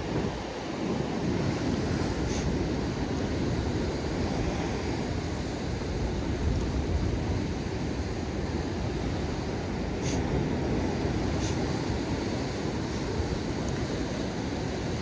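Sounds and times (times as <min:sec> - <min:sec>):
surf breaking over rocks: 0:00.0 - 0:15.0
wind rumbling on microphone: 0:00.0 - 0:15.0.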